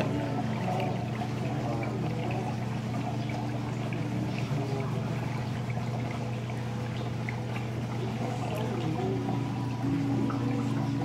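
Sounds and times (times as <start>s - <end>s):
steady low hum: 0.0s - 11.0s
water trickling and pouring: 0.0s - 11.0s.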